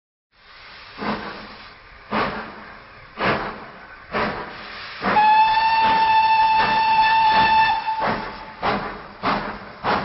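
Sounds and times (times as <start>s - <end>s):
steady steam hiss: 0.3s - 10.0s
steam train chuffs: 0.4s - 10.0s.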